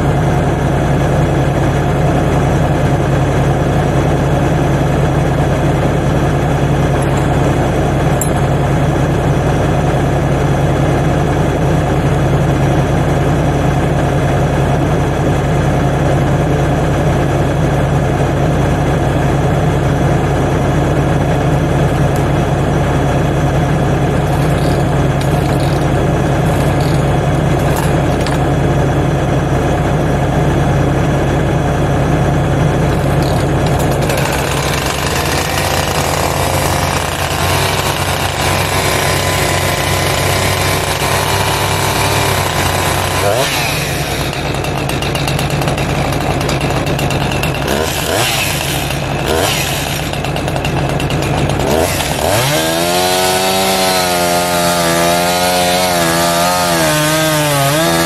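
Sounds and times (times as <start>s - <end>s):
engine idling: 0.0s - 38.7s, 42.7s - 52.5s.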